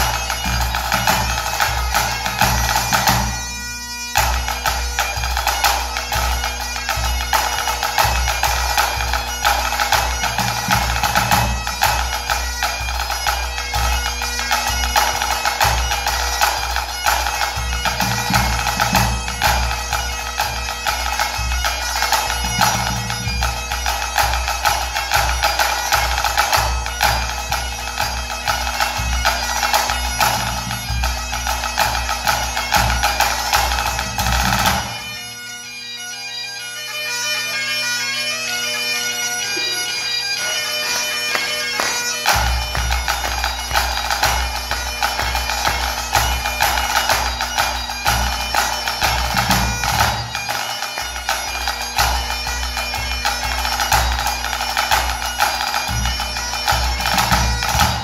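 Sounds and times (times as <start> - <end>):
drums beating: 0.0 - 3.4, 4.1 - 35.1, 41.3 - 58.0
bagpipes playing a melody: 0.0 - 58.0.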